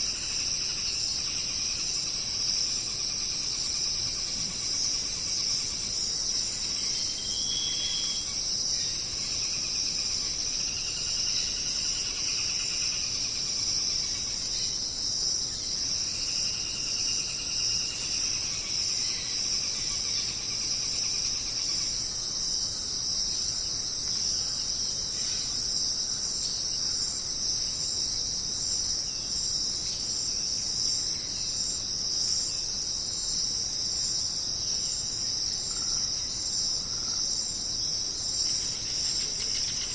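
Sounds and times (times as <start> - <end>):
insects buzzing trill: 0.0 - 39.9.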